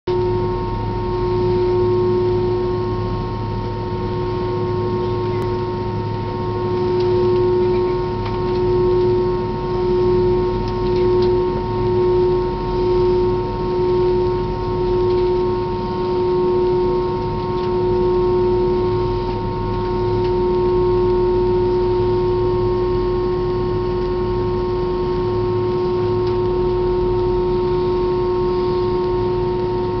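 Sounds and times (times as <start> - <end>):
machinery drone with whine: 0.1 - 30.0.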